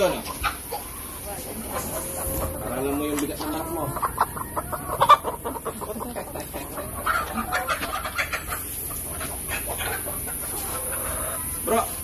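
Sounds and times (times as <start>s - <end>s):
hens clucking and squawking: 0.0s - 12.0s.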